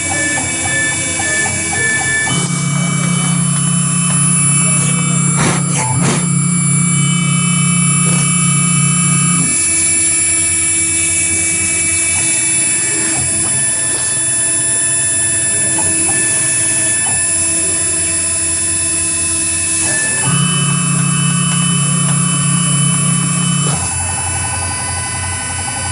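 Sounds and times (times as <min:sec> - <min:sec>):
cnc router spindle whine: 0:00.0 - 0:25.9
low hum: 0:00.0 - 0:25.9
mechanical noise: 0:00.0 - 0:25.9.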